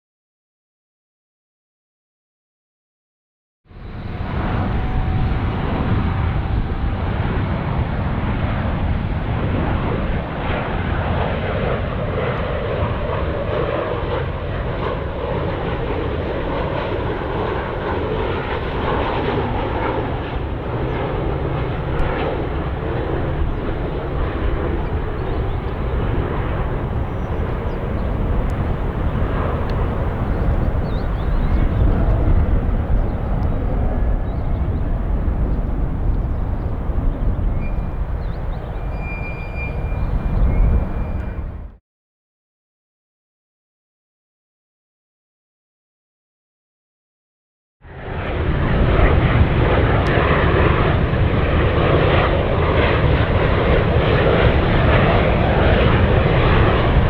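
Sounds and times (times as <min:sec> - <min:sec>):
jet engine rumble: 0:03.8 - 0:41.8, 0:47.9 - 0:57.0.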